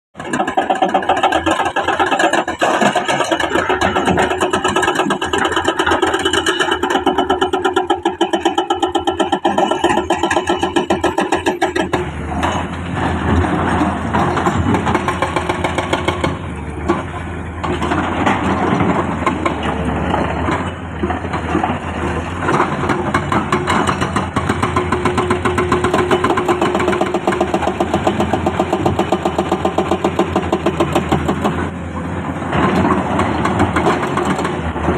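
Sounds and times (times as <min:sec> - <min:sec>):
heavy machinery engine running: 0:00.2 - 0:34.9.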